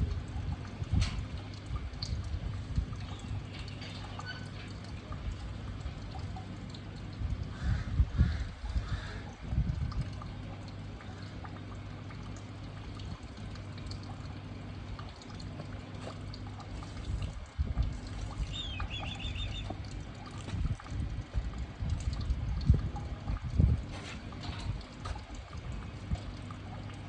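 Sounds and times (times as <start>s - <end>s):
low steady hum: 0.0s - 27.0s
water pouring and trickling: 0.0s - 27.0s.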